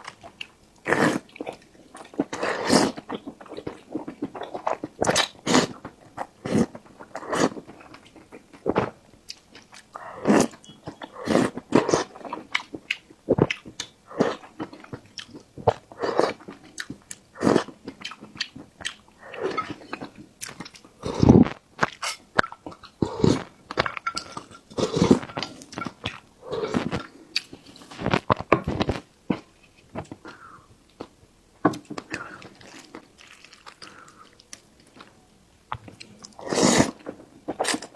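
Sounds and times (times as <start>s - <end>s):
wet chewing and smacking: 0.0s - 30.4s.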